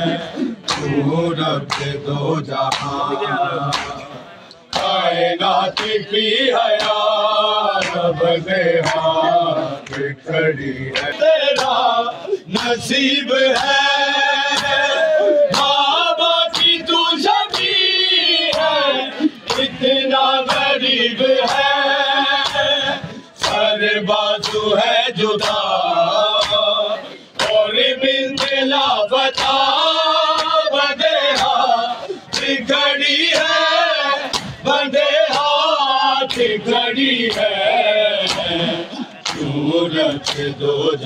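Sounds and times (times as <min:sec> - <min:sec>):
men chanting a lament in chorus: 0:00.0 - 0:41.0
rhythmic chest-beating slaps: 0:00.0 - 0:41.0.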